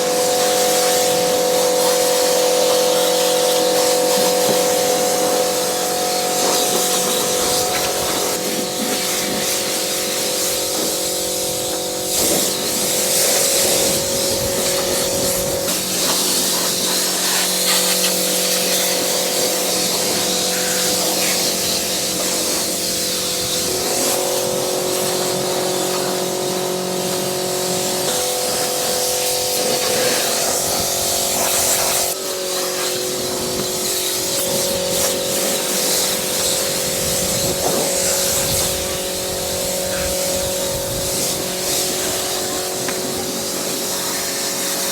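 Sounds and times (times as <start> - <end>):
pressure washer motor humming: 0.0 - 44.9
water jet hissing: 0.0 - 44.9.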